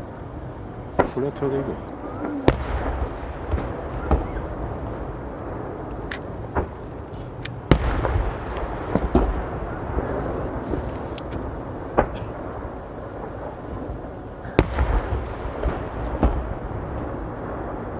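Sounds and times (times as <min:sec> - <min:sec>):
rumble of echoing explosions: 0:00.0 - 0:17.9.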